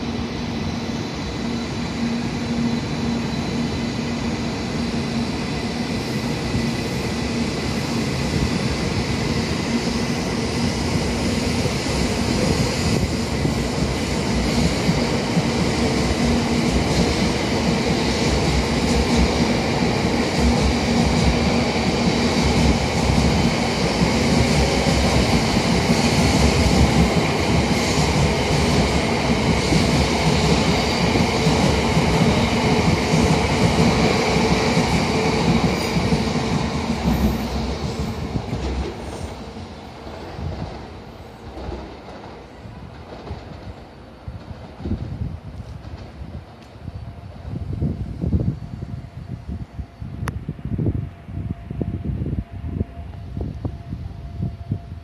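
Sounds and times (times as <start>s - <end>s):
electric train hum: 0.0s - 55.0s
wheels rushing on rail: 0.0s - 55.0s.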